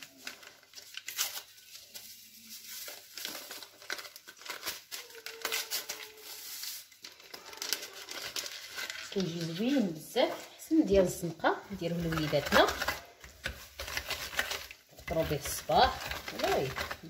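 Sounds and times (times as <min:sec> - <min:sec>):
paper sachets crinkling: 0:00.0 - 0:17.0.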